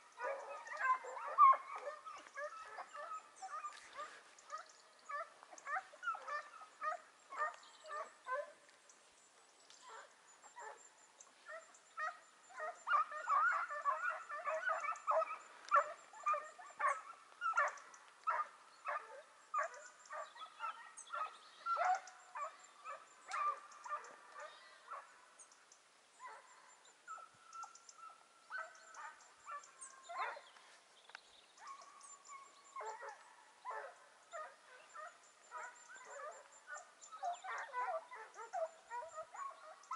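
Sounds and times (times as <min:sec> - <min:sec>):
hounds baying and yelping: 0:00.0 - 0:08.7, 0:09.8 - 0:25.4, 0:26.2 - 0:30.8, 0:31.6 - 0:39.9.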